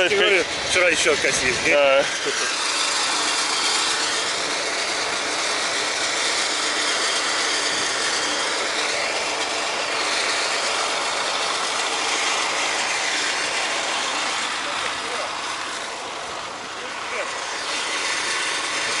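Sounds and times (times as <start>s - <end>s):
machinery rattling: 0.0s - 19.0s.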